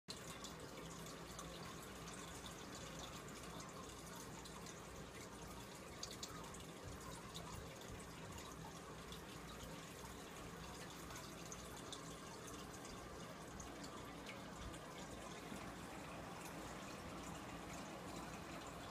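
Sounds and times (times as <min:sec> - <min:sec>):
aquarium water trickling: 0:00.1 - 0:18.9
low steady hum: 0:00.1 - 0:18.9
water drips: 0:00.1 - 0:18.9.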